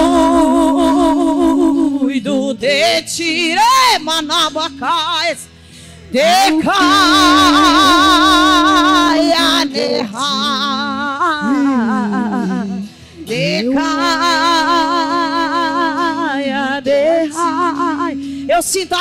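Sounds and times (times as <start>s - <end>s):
woman singing gospel song: 0.0s - 5.5s, 6.1s - 19.0s.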